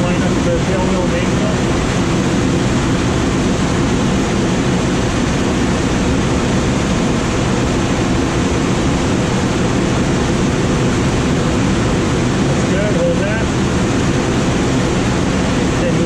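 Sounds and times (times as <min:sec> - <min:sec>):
airflow rushing around cockpit: 0:00.0 - 0:16.0.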